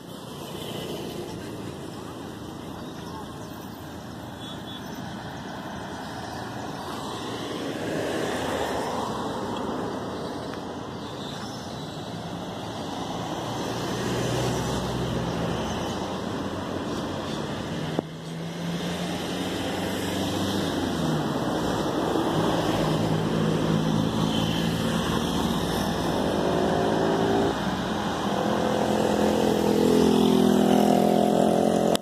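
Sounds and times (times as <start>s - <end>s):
passing vehicle engines: 0.0s - 32.0s.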